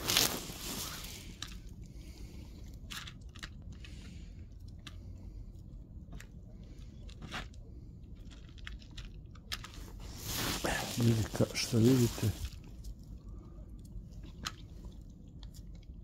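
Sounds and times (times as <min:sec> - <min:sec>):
cat crunching dry kibble: 0:00.0 - 0:16.0.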